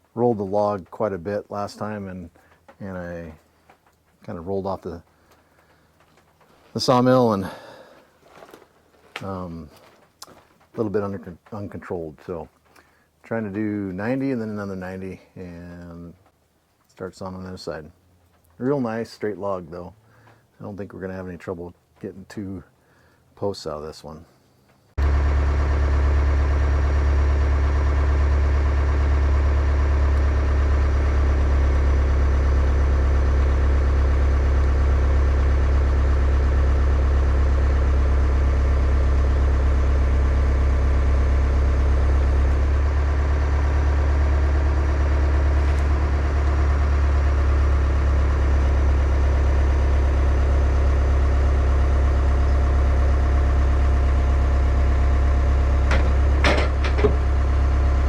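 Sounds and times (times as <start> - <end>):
engine idling: 0.0 - 16.4, 24.9 - 58.0.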